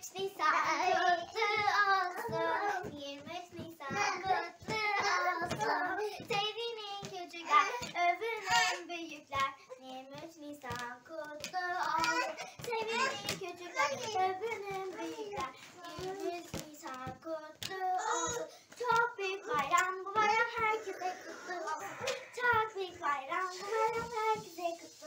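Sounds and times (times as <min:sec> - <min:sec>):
girl singing unaccompanied: 0:00.0 - 0:25.0.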